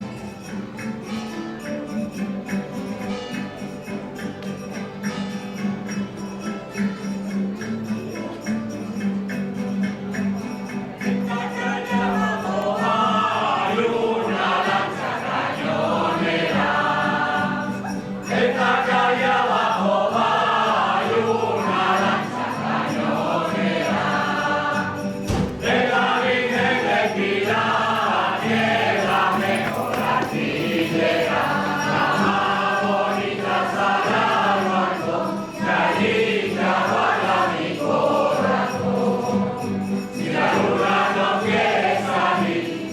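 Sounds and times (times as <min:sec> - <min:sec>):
folk choir singing: 0:00.0 - 0:42.9
tambourine: 0:00.0 - 0:42.9.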